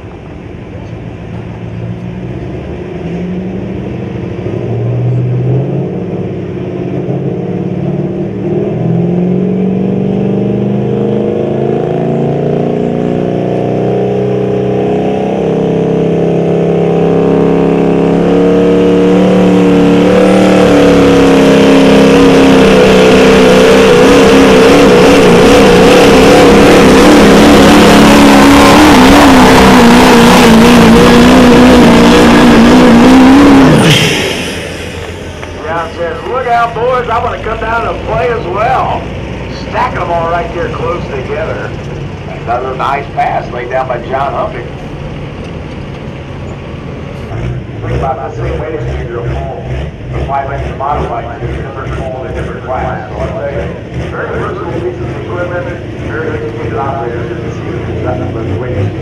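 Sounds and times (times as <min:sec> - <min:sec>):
diesel truck engine revving under load: 0:00.0 - 0:59.0.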